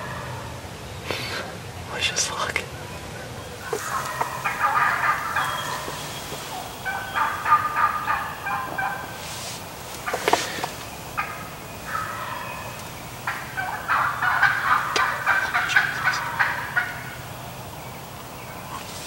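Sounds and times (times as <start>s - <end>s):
turkey gobbling: 0.0s - 0.6s, 2.7s - 19.0s
turkey hens yelping and cackling: 0.0s - 1.8s, 2.6s - 19.0s.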